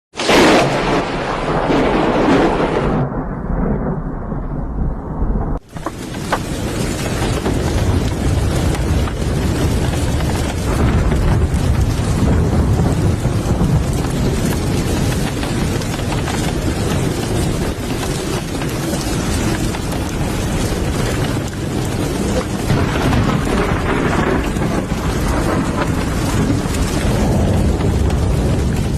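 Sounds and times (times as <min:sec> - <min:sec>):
heavy rain: 0:00.1 - 0:05.0, 0:05.6 - 0:28.9
rolling thunder: 0:00.2 - 0:28.9.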